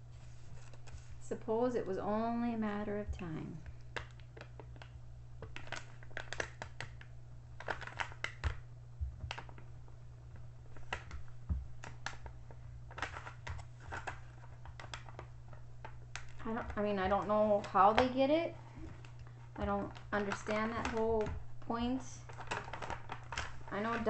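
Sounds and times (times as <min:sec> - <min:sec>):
crinkling rustles: 0:00.0 - 0:01.5, 0:02.3 - 0:24.0
steady low hum: 0:00.0 - 0:24.0.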